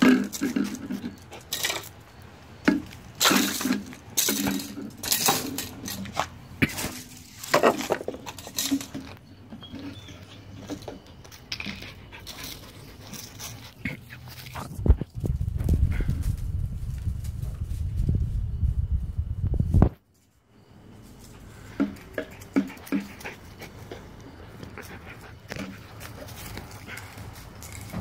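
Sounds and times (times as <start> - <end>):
footsteps on concrete and leaves: 0.0 - 28.0.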